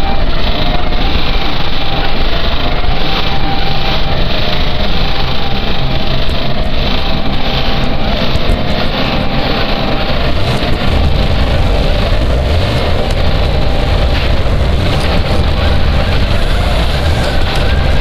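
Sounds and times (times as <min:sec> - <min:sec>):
harsh noise music: 0:00.0 - 0:18.0.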